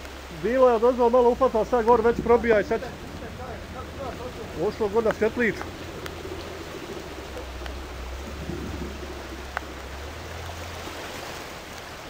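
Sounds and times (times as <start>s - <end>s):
low rumble: 0.0s - 12.0s
river water rushing: 0.0s - 12.0s.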